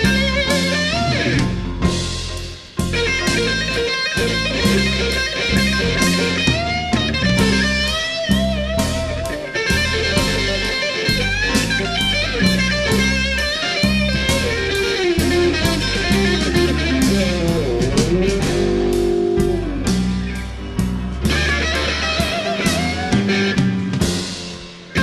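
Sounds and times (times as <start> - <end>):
bass guitar: 0.0 - 25.0
drums: 0.0 - 25.0
electric lead guitar: 0.0 - 25.0.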